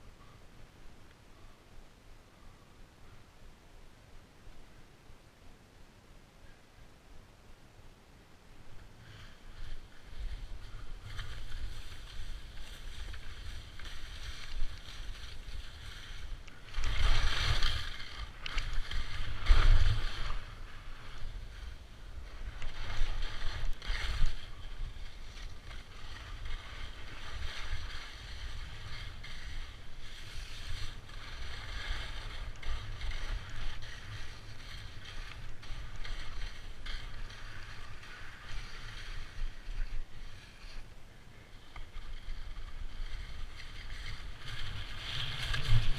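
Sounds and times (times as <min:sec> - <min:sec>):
skis sliding over snow: 0:08.6 - 0:45.9.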